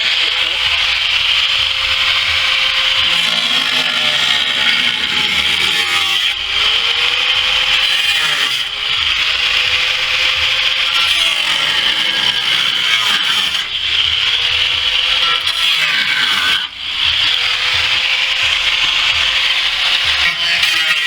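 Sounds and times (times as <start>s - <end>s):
angle grinder cutting metal: 0.0s - 21.0s.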